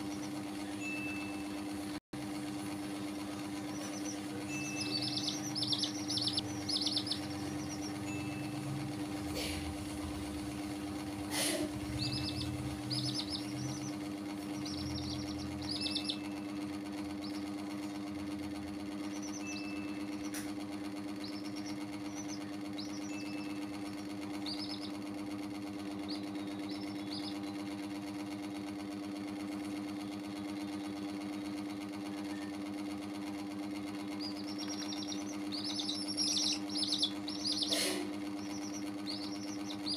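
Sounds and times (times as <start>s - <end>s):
baby chicks peeping: 0.0s - 39.9s
steady mechanical hum: 0.0s - 39.9s.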